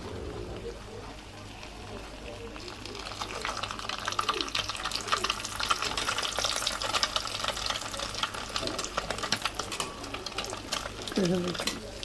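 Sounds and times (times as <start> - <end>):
food sizzling in hot oil: 1.1 - 12.0.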